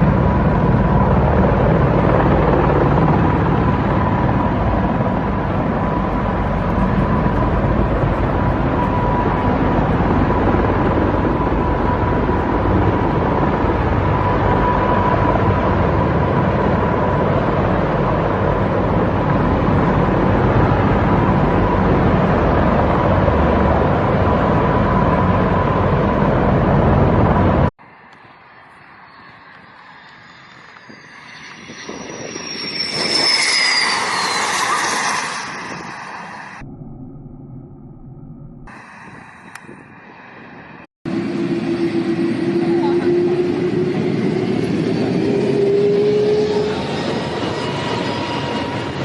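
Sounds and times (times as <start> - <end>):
aircraft engine and airflow noise: 0.0 - 49.0.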